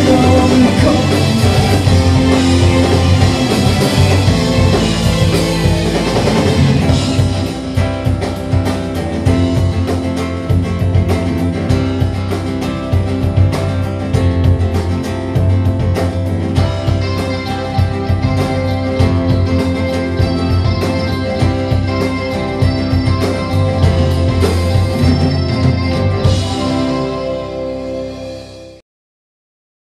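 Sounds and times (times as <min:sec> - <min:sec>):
drum beat: 0:00.0 - 0:27.1
live rock band playing: 0:00.0 - 0:28.8.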